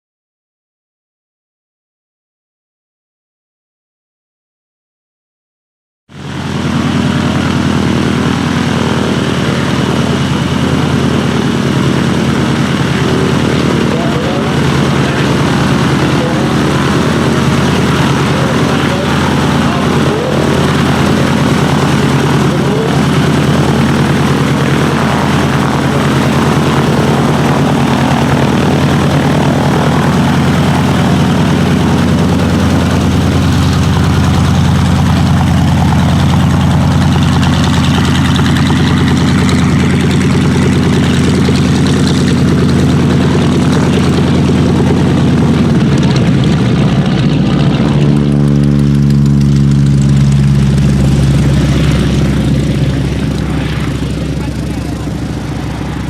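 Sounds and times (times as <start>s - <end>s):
radial engine and propeller running: 6.1s - 56.0s.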